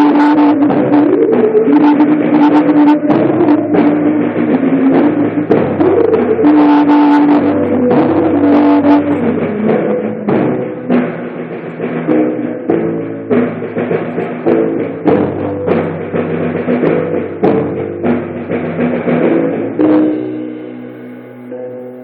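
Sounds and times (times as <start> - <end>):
drum kit beat: 0.0 - 22.0
sustained pitched chords: 0.0 - 22.0.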